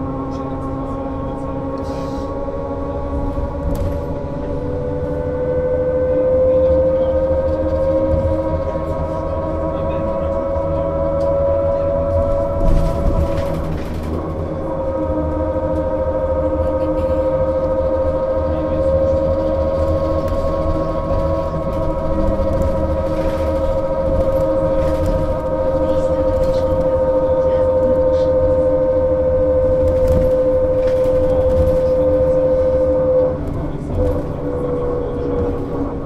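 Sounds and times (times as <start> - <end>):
road rumble: 0.0 - 36.0.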